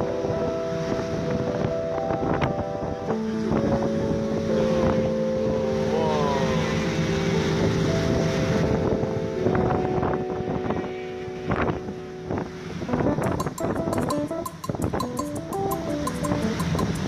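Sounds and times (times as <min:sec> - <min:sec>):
music of long held chords: 0:00.0 - 0:17.0
wind on microphone: 0:00.0 - 0:17.0.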